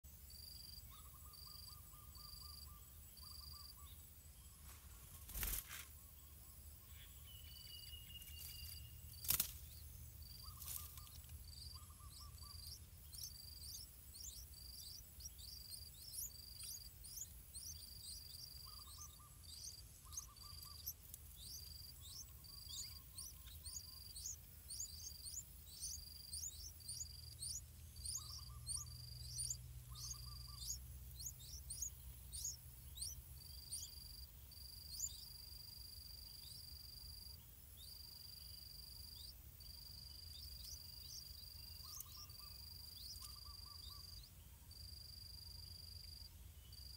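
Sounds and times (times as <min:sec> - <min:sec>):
low chirring bird calls: 0:00.5 - 0:35.4, 0:37.8 - 0:44.4
nestlings chirping: 0:04.6 - 0:44.4.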